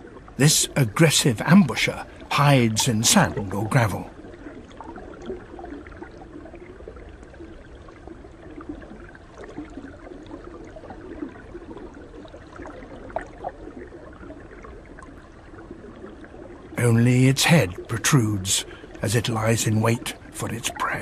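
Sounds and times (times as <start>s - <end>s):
water gurgling: 0.0s - 21.0s.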